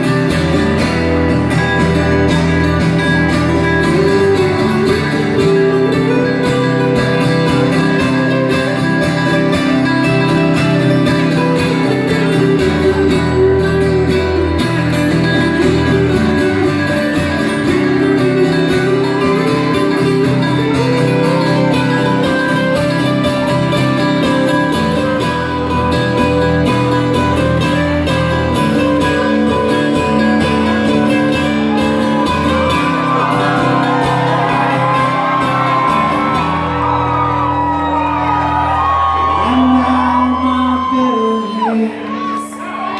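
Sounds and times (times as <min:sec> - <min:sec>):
live band instrumental with guitars: 0:00.0 - 0:42.9.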